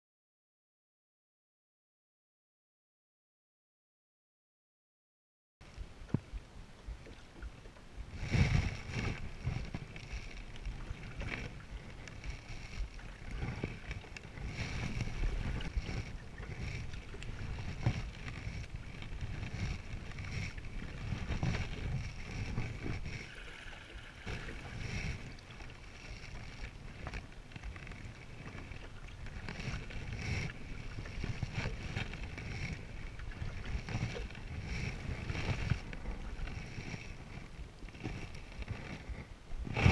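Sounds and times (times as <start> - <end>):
paddle strokes in water: 5.6 - 39.9
wind rumble on microphone: 5.6 - 39.9
water splashing and lapping: 5.8 - 39.9.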